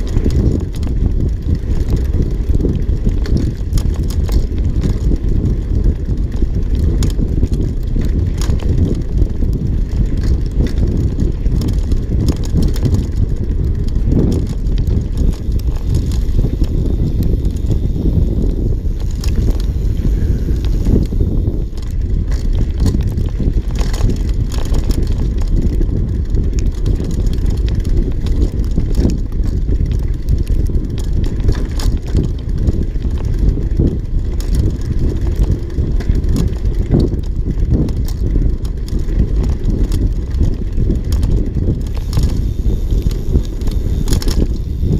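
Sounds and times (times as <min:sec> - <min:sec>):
bike clicking and rattling: 0:00.0 - 0:44.9
tyres rumbling on dirt: 0:00.0 - 0:44.9
wind on microphone: 0:00.0 - 0:44.9.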